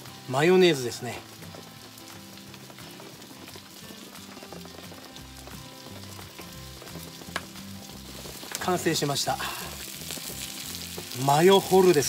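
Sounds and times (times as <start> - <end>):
food sizzling in a skillet: 0.0 - 12.0
soft background music: 0.0 - 12.0.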